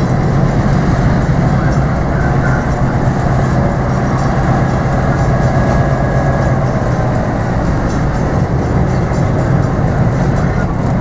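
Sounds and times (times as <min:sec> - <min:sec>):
diesel locomotive engines droning: 0:00.0 - 0:11.0.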